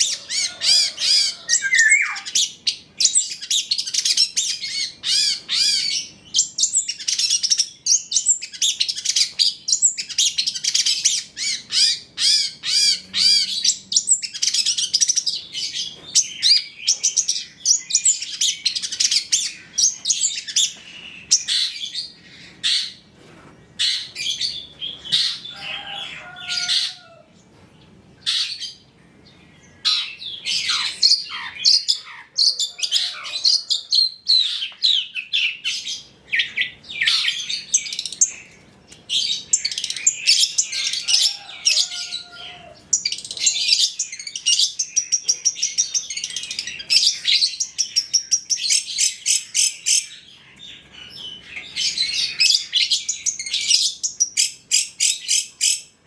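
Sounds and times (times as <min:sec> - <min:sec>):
bird singing chirps and trills: 0:00.0 - 0:23.1, 0:28.2 - 0:56.0.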